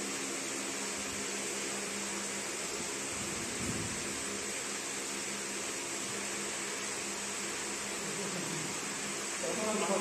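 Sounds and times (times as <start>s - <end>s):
laser machine whirring hiss: 0.0s - 10.0s.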